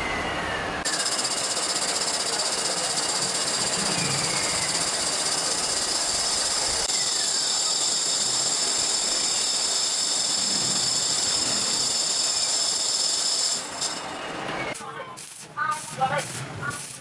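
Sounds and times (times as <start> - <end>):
metalworking machine hiss and whine: 0.0 - 14.2.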